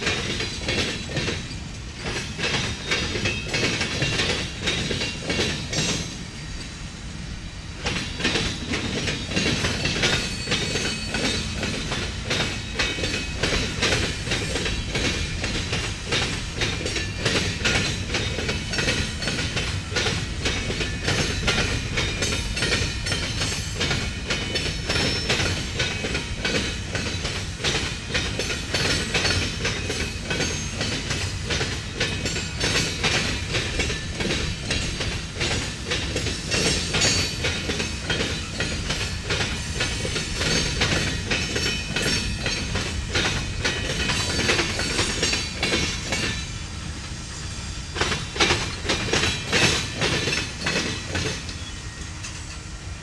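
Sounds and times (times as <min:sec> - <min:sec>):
train wheels clattering over crossing: 0:00.0 - 0:53.0.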